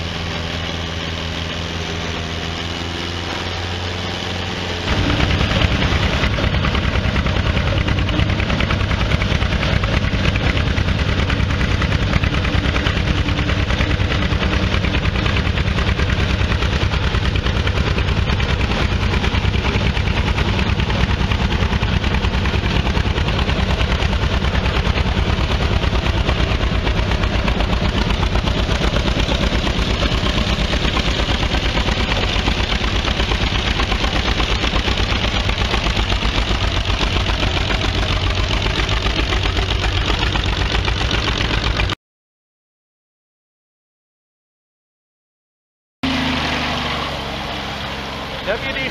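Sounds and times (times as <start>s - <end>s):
tractor engine running under load: 0.0s - 42.0s, 46.0s - 48.9s.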